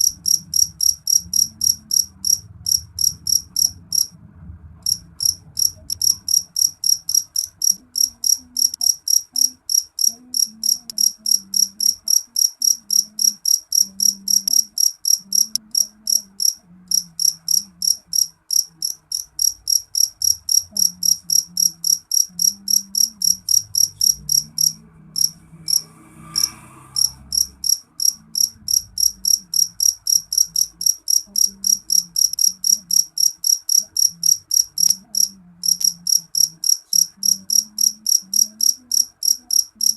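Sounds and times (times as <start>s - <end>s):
cricket chirping: 0.0s - 4.1s, 4.8s - 39.9s.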